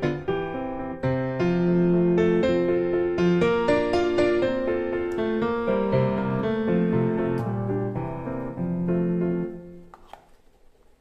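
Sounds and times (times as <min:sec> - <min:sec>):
piano melody: 0:00.0 - 0:09.9.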